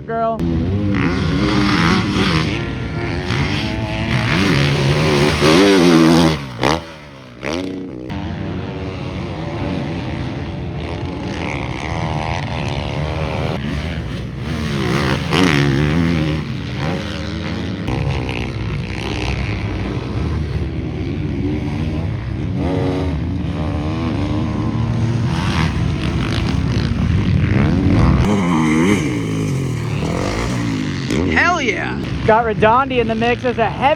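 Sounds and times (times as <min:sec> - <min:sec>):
motocross bikes revving: 0:00.0 - 0:33.9.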